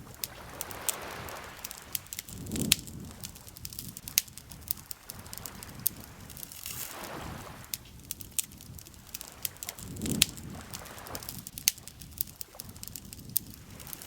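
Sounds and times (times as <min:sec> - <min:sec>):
campfire crackling and popping: 0:00.0 - 0:14.0
lake water lapping: 0:00.0 - 0:14.0.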